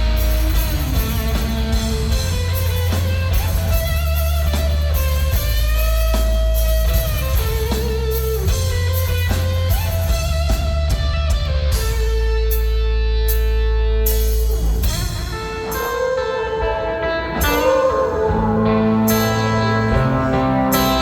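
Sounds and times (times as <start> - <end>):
electric guitar long held notes: 0.0 - 21.0
live rock music: 0.0 - 21.0.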